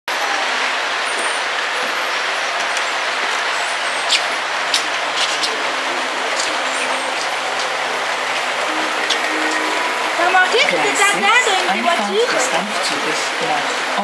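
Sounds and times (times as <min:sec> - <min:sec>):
model train running on track: 0:00.1 - 0:14.0.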